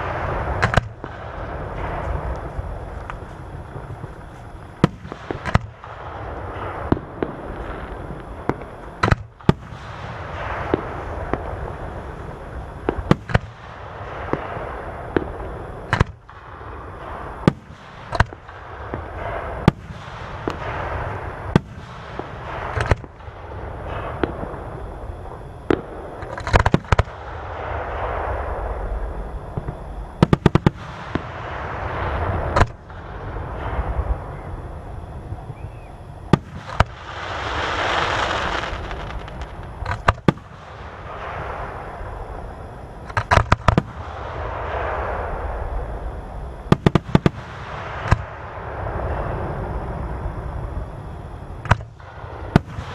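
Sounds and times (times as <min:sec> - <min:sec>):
crackling fizzing firework tails: 0:00.0 - 0:52.9.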